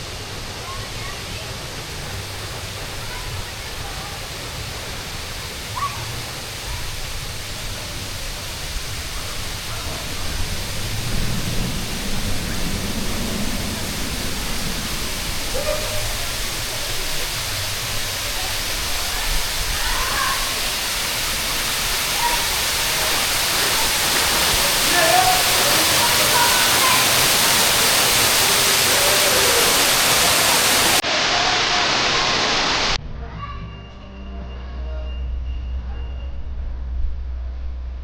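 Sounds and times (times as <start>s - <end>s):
splashing falling water: 0.0s - 33.0s
faint voices of people: 0.2s - 10.8s, 15.5s - 32.4s, 33.0s - 36.6s.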